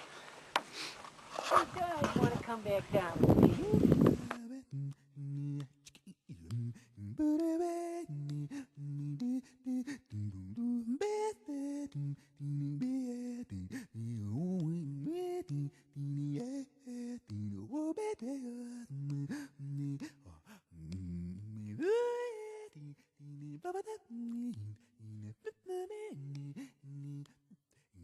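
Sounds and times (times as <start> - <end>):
person singing: 1.8 - 27.3.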